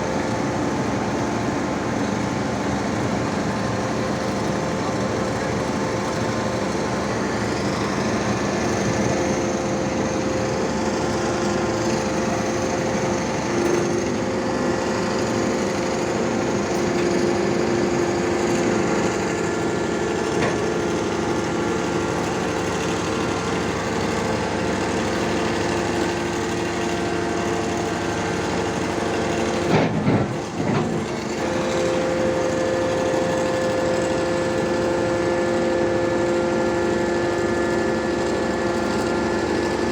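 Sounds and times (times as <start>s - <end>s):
hydraulic pump whine: 0.0s - 39.9s.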